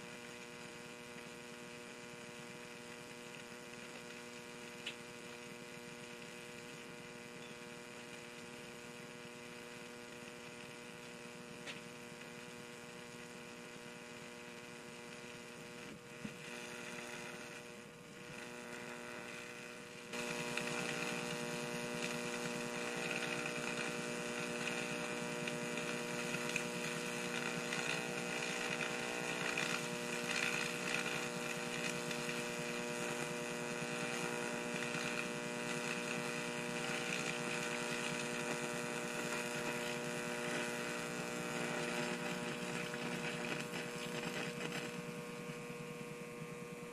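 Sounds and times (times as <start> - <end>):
battery burning with hiss: 0.0 - 46.9
high-voltage arc buzzing: 0.0 - 46.9.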